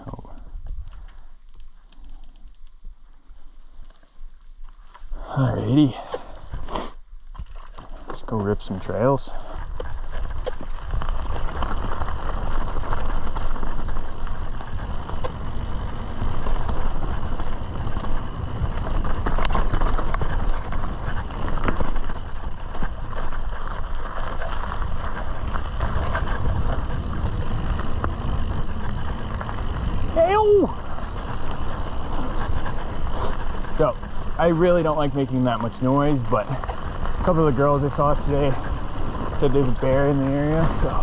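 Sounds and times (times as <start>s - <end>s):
bike rattling: 0.0s - 41.0s
tyres crunching over dirt: 7.3s - 41.0s.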